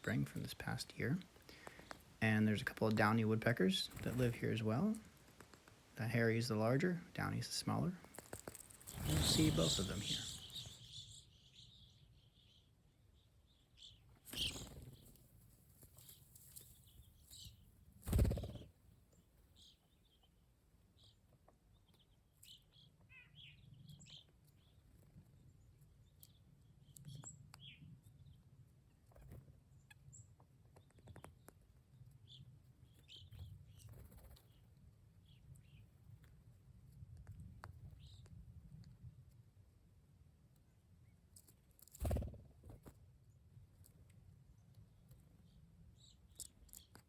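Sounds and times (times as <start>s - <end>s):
small birds chirping: 0.0s - 39.4s, 41.0s - 47.0s.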